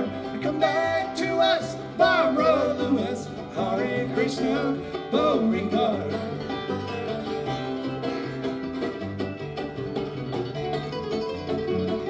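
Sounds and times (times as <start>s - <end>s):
banjo picking: 0.0s - 12.0s
bluegrass band playing: 0.0s - 12.0s.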